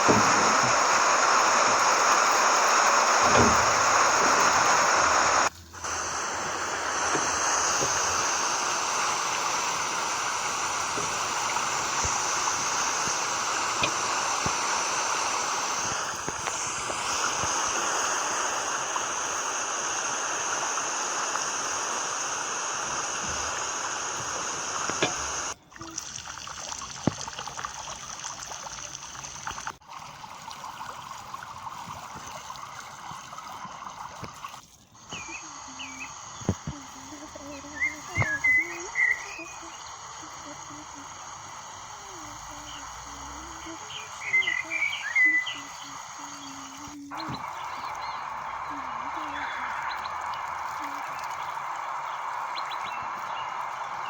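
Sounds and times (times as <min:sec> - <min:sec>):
water spraying on plants: 0:00.0 - 0:54.0.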